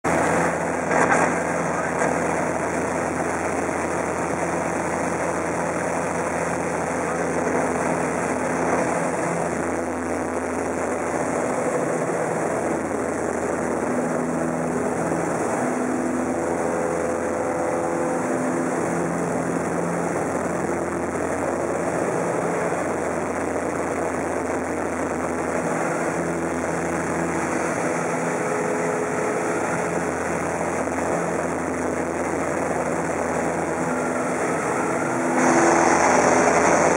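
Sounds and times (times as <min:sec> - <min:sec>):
propeller plane engine running: 0:00.0 - 0:36.9
rushing air: 0:00.0 - 0:36.9.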